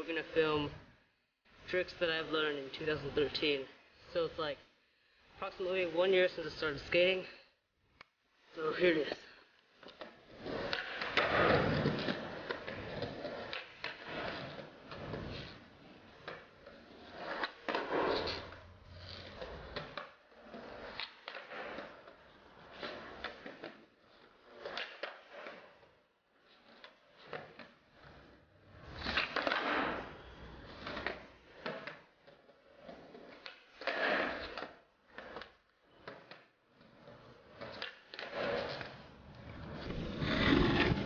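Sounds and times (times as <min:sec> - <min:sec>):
skateboard wheels rolling on concrete: 0:01.6 - 0:04.6, 0:08.4 - 0:41.0.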